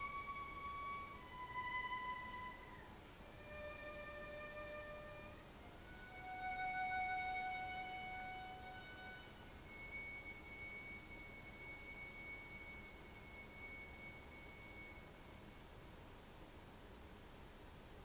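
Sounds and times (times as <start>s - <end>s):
bowed cellos high notes: 0.0s - 15.6s.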